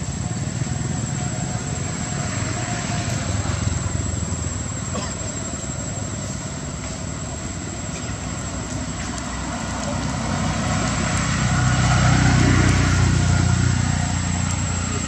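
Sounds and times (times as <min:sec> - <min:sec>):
vehicle engine passing by: 0:00.0 - 0:04.9, 0:05.8 - 0:15.0.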